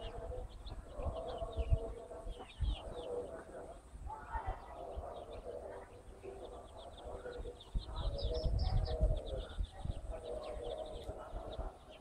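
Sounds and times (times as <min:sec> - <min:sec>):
chicks peeping: 0:00.0 - 0:12.0
hen calling: 0:00.0 - 0:12.0.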